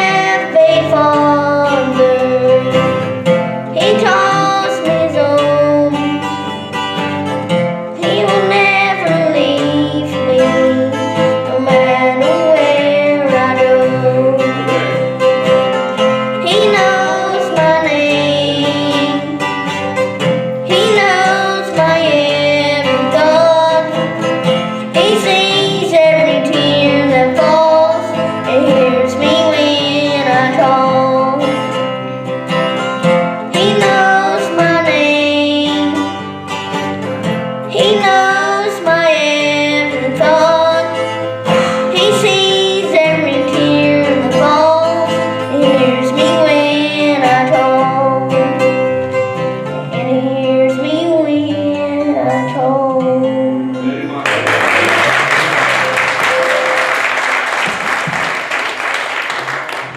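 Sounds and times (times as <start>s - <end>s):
person singing: 0.0s - 6.7s, 7.9s - 15.4s, 16.3s - 19.8s, 20.6s - 31.8s, 33.4s - 36.8s, 37.7s - 56.8s
guitar accompaniment: 0.0s - 59.9s.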